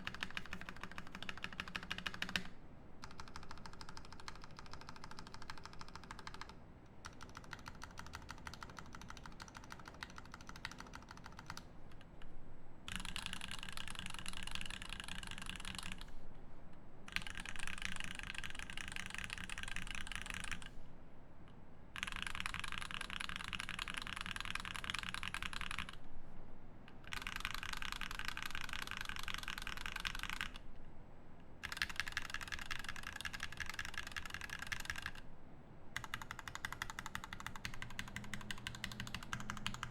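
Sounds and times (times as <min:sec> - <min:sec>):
mechanical keyboard typing: 0:00.0 - 0:11.7, 0:12.9 - 0:16.1, 0:17.1 - 0:20.7, 0:22.0 - 0:26.0, 0:27.0 - 0:30.6, 0:31.6 - 0:35.2, 0:36.0 - 0:39.9.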